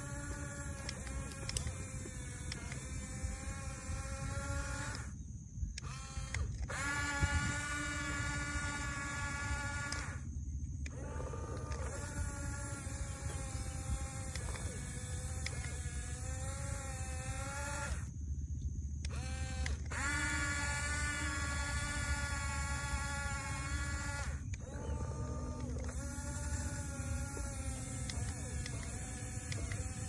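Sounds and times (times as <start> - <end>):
toy bulldozer motor whining: 0.0 - 18.1, 19.0 - 30.0.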